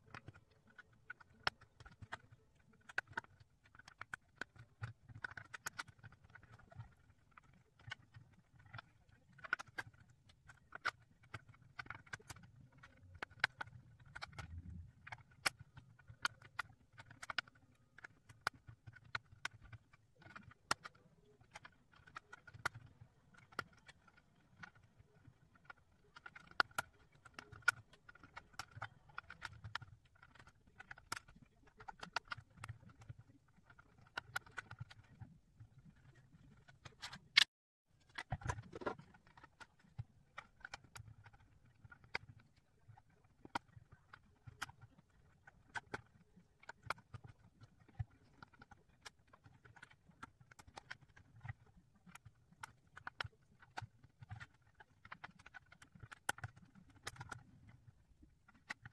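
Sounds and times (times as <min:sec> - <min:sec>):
plastic puzzle pieces clicking: 0:00.0 - 0:58.9
soft handling sounds: 0:00.0 - 0:58.9.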